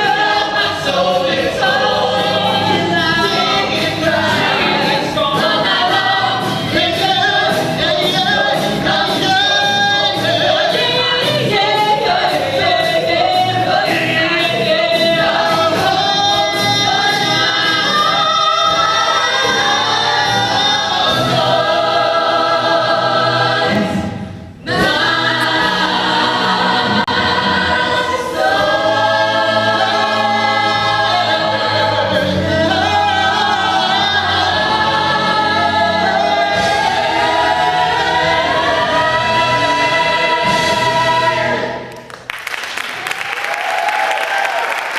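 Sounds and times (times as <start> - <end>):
gospel choir singing: 0.0 - 42.0
musical accompaniment: 0.0 - 42.4.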